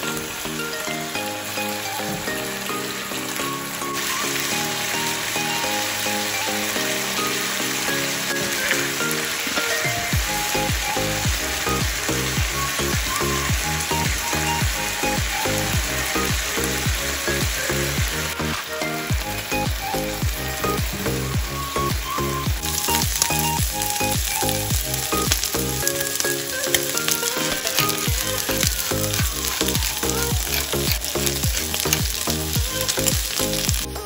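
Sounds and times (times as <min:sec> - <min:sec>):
background music with steady beat: 0:00.0 - 0:34.0
chicken sizzling in hot oil: 0:00.0 - 0:34.0.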